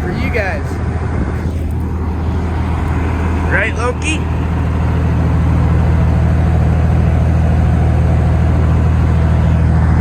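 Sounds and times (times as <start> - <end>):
road noise: 0.0 - 10.0
truck diesel engine droning: 0.0 - 10.0.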